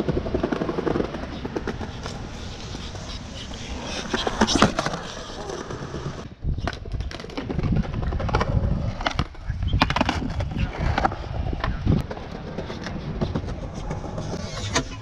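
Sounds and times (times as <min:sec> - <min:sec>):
skateboard clacking on ground: 0:00.0 - 0:15.0
skateboard wheels rolling on concrete: 0:00.0 - 0:15.0.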